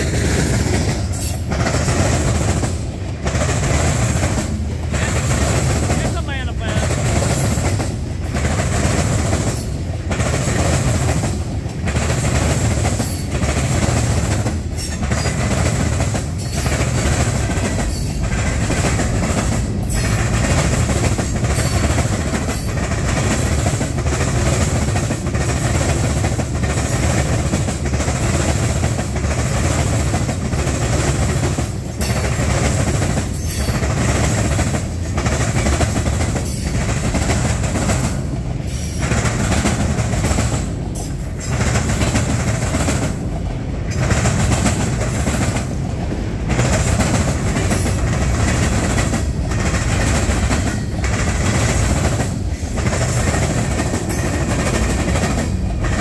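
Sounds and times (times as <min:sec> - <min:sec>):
train wheels clattering on rail: 0:00.0 - 0:56.0.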